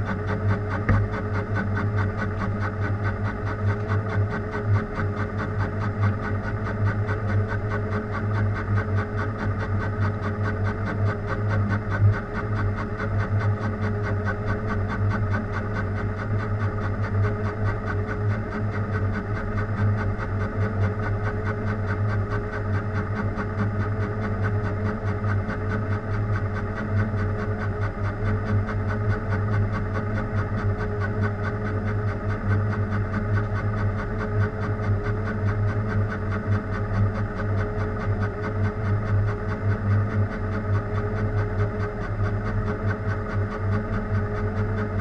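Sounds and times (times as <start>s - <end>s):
machine tool humming and pulsing: 0.0s - 45.0s.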